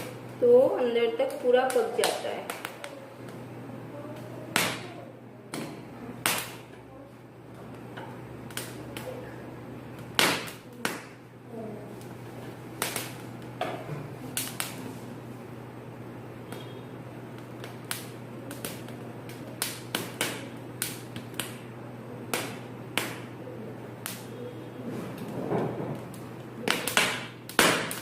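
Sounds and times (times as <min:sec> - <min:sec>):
corn kernels crackling and popping: 0:00.0 - 0:15.3, 0:15.9 - 0:28.0
steady low hum: 0:00.0 - 0:28.0.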